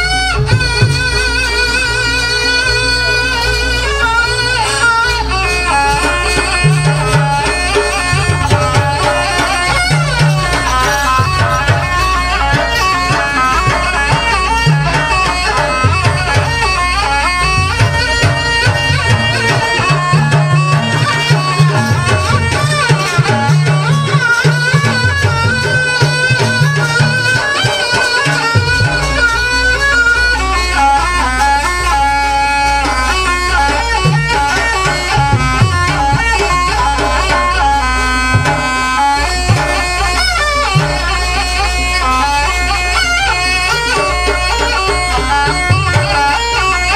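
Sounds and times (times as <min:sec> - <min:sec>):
gong-like beats: 0:00.0 - 0:46.9
hand drum beats: 0:00.0 - 0:46.9
reedy wind instrument melody: 0:00.0 - 0:46.9.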